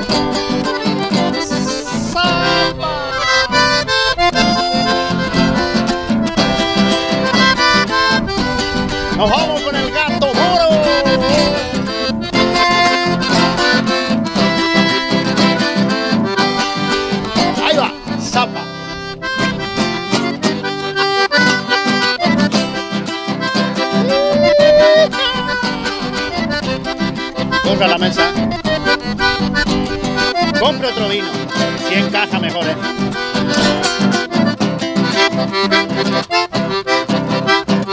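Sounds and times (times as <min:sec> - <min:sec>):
accordion playing: 0:00.0 - 0:37.9.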